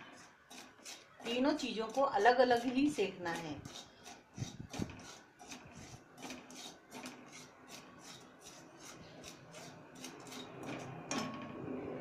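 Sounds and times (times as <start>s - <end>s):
spatula scraping salt in pan: 0.0s - 10.9s.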